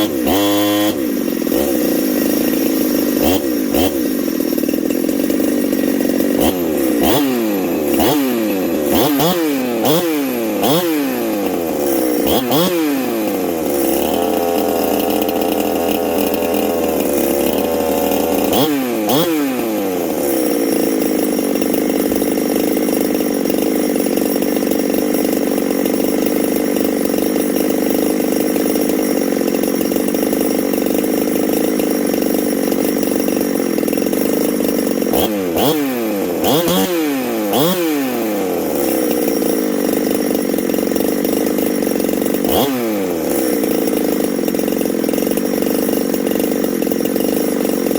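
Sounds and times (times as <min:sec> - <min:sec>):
chainsaw engine revving: 0:00.0 - 0:47.9.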